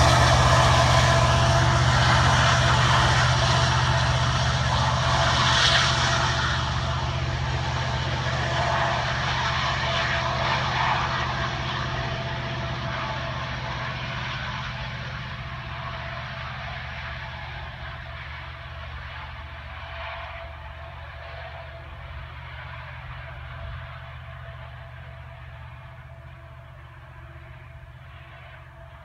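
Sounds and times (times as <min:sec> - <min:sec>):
diesel locomotive engine hum: 0:00.0 - 0:29.0
train wheels on rail: 0:00.0 - 0:29.0.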